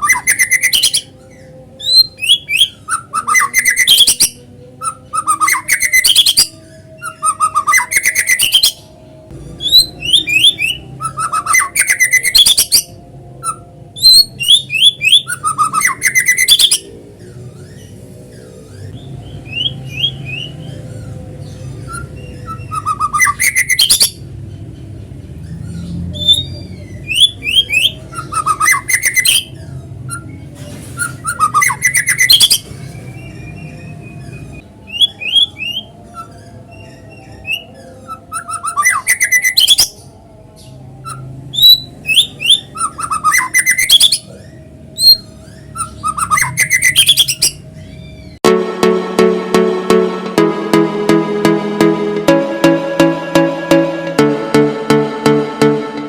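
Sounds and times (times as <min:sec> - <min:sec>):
songbird singing: 0:00.0 - 0:48.4.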